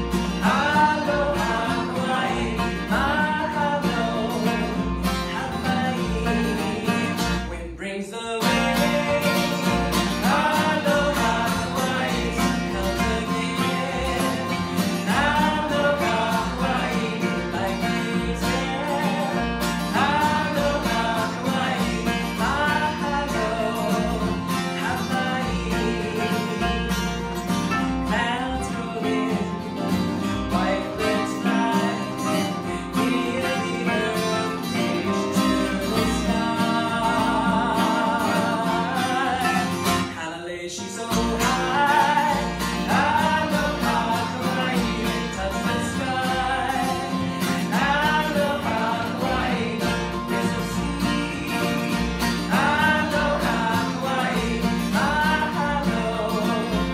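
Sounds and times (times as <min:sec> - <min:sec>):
acoustic guitars strummed and picked: 0:00.0 - 0:56.9.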